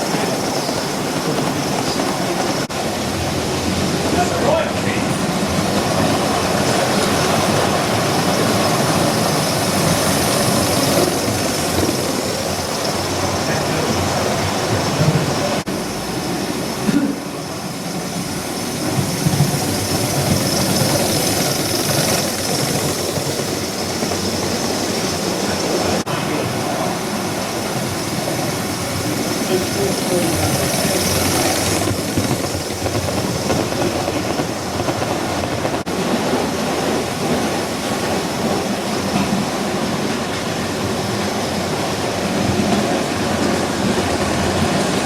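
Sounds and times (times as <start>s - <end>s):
model trains rolling on track: 0.0s - 45.0s.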